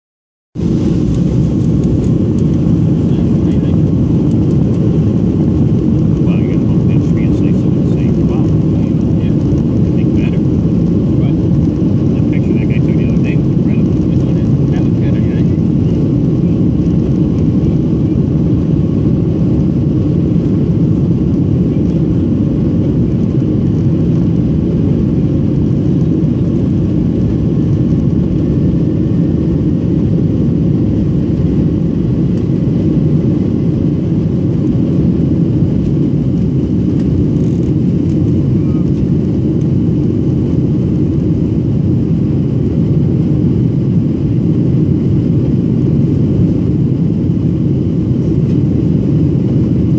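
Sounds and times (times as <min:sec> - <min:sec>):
jet engines deep rumble: 0:00.6 - 0:49.9.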